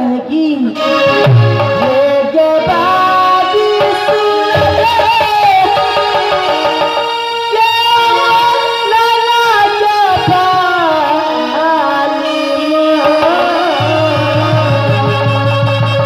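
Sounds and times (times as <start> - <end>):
person singing into a microphone: 0.0 - 16.0
held instrumental tones: 0.8 - 16.0.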